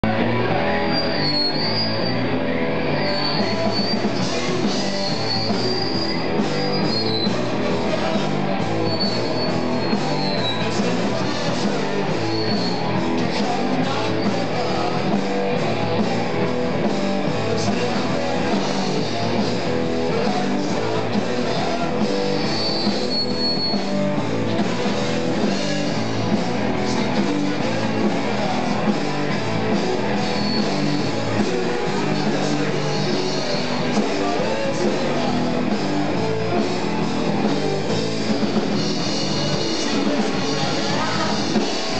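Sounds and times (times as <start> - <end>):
electric guitars: 0.0 - 41.9
rock band playing: 0.0 - 41.9.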